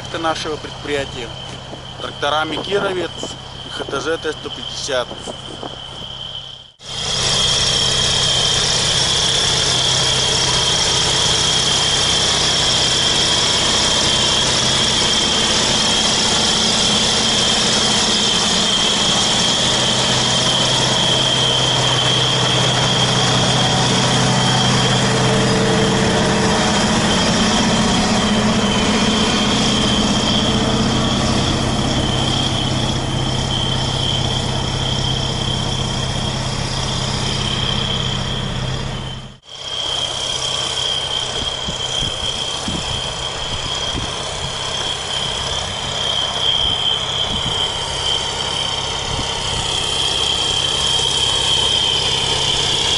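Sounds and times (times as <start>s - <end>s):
high-pitched whine: 0.0s - 52.9s
tractor diesel engine running: 0.0s - 52.9s.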